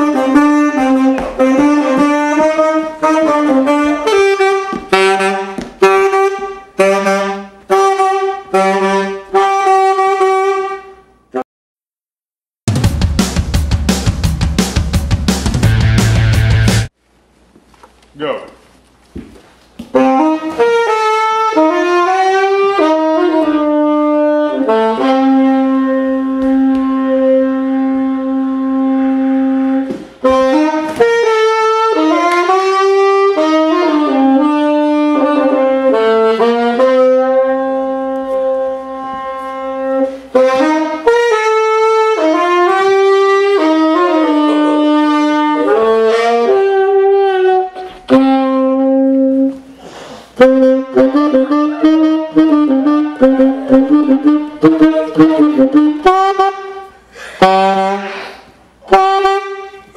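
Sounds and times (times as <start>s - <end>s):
saxophone jazz music: 0.0s - 11.4s, 12.7s - 16.9s, 19.8s - 59.9s.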